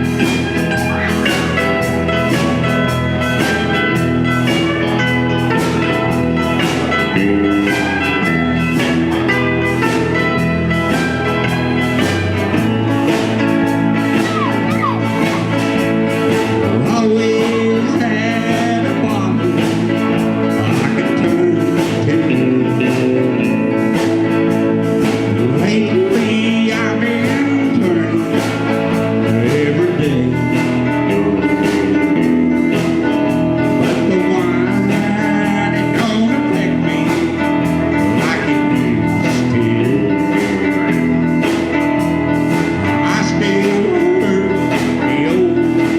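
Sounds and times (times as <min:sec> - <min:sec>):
bass and drums: 0:00.0 - 0:45.9
electric guitar: 0:00.0 - 0:45.9
person singing: 0:05.6 - 0:41.8, 0:42.4 - 0:45.9.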